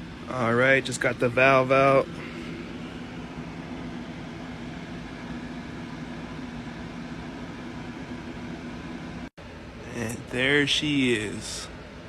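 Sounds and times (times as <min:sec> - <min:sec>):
low background hum with hiss: 0:00.0 - 0:12.0.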